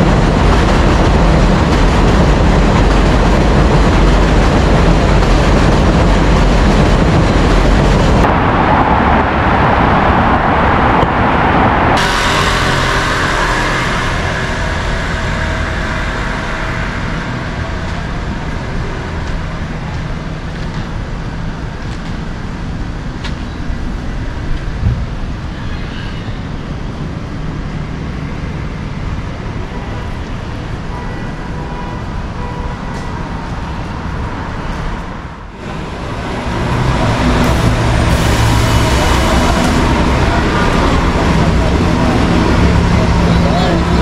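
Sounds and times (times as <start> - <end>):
traffic rumble: 0.0 - 44.0.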